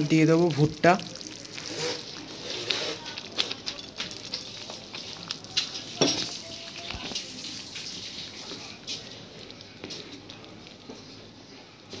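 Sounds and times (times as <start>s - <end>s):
corn kernels pattering: 0.0s - 12.0s
gravy sizzling in a frying pan: 0.0s - 12.0s.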